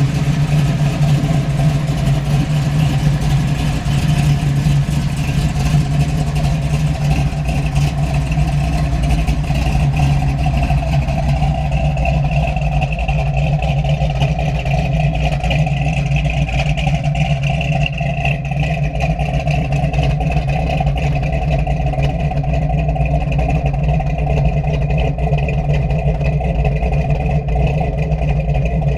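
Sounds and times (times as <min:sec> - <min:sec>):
car engine running steadily: 0:00.0 - 0:28.9.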